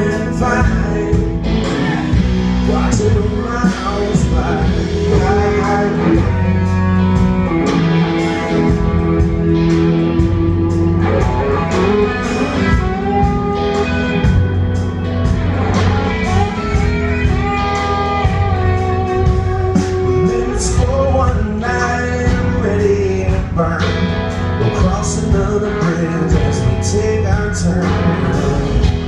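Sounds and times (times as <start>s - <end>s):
drums keeping a steady beat: 0.0s - 29.0s
electric guitar playing tune: 0.0s - 29.0s.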